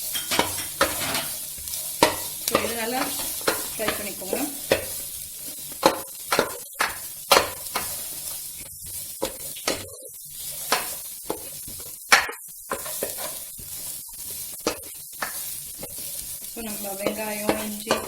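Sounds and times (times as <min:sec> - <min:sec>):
spatula scraping and knocking pan: 0:00.0 - 0:18.0
vegetables sizzling in a pan: 0:00.0 - 0:18.0.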